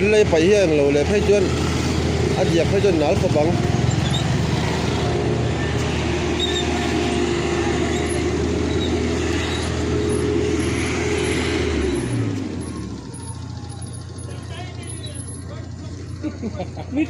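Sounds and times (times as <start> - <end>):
road roller diesel engine: 0.0 - 17.0.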